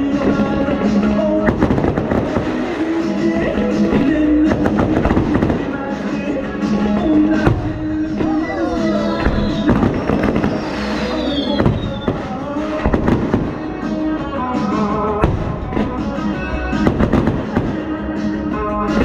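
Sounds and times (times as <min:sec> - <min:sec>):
fireworks bangs and crackle: 0:00.0 - 0:19.0
music: 0:00.0 - 0:19.0.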